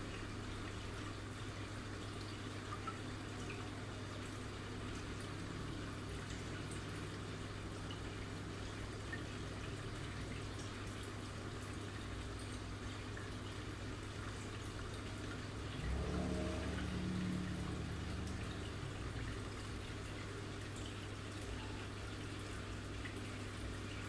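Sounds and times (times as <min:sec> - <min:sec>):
running water: 0:00.0 - 0:24.0.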